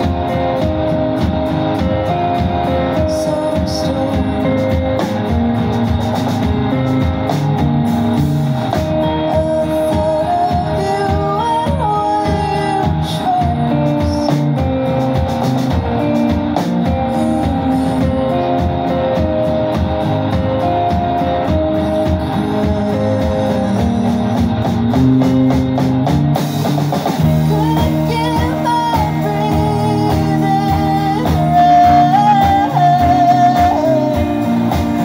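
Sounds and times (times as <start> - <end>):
rock band playing: 0.0 - 35.0.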